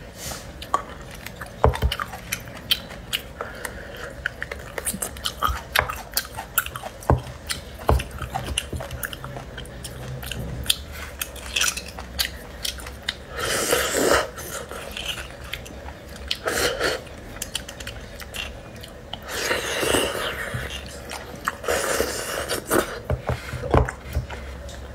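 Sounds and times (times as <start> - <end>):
chewing and lip-smacking: 0.6 - 24.9.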